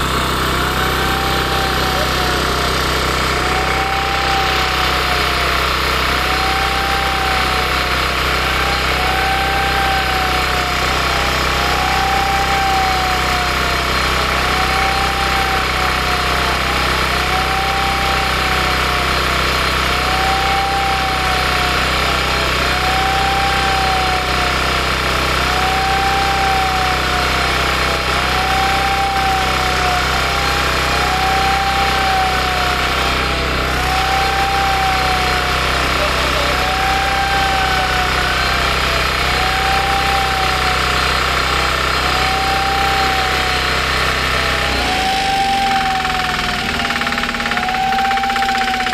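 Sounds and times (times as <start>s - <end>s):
loud machine running: 0.0s - 48.9s
squeal rising and falling: 0.6s - 48.9s.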